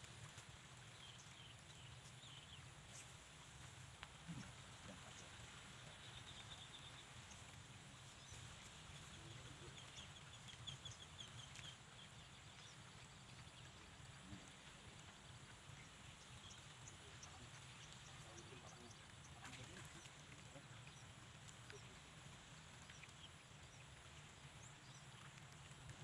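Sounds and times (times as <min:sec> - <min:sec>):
bird chirping: 0:00.8 - 0:03.1, 0:04.2 - 0:25.8.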